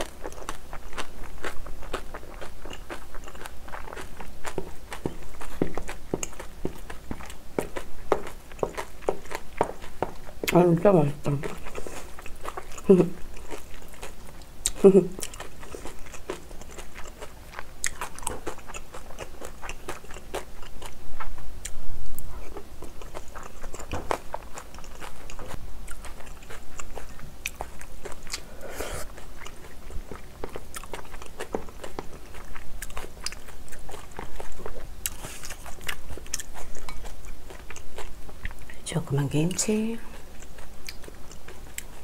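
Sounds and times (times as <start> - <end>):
wet chewing and crunching: 0.0 - 42.0.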